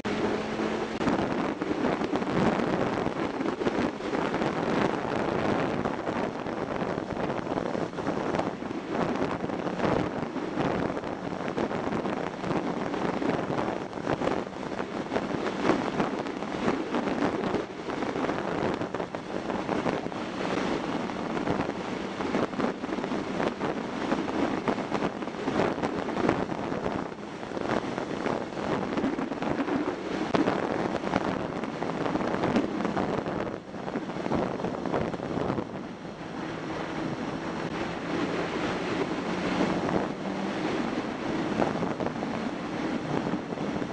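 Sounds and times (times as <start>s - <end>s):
motorcycle engine hum: 0.0s - 43.9s
wind buffeting microphone: 0.0s - 43.9s.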